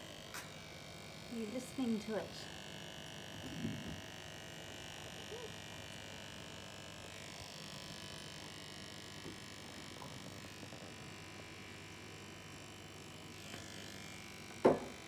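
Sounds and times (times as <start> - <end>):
electric clippers humming: 0.0 - 15.0.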